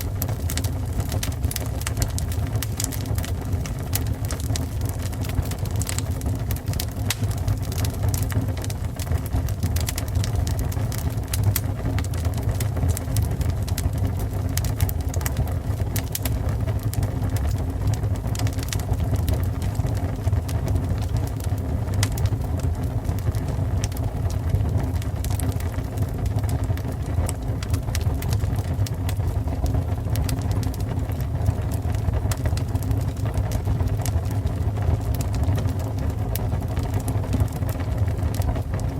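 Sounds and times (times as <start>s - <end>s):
fire burning: 0.0s - 38.9s
fire crackles and pops: 0.0s - 38.9s.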